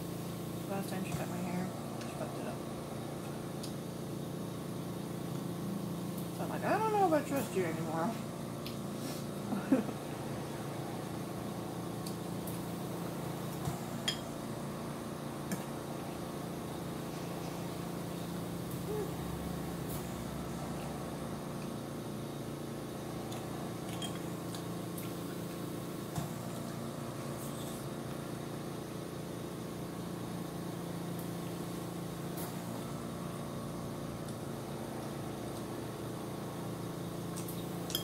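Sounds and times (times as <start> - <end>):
steady machine hum: 0.0 - 38.0.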